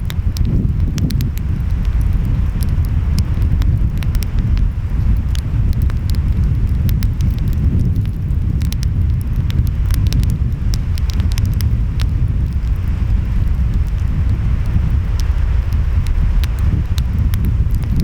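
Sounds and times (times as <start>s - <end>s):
wind: 0.0s - 18.0s
wood fire crackling: 0.0s - 18.0s.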